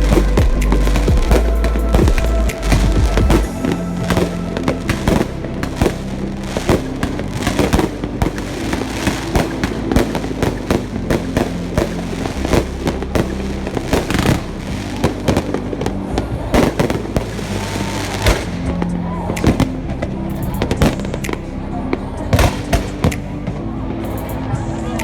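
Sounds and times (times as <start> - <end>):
fireworks bangs and crackling: 0.0 - 21.4, 22.2 - 24.1
music: 0.0 - 25.0.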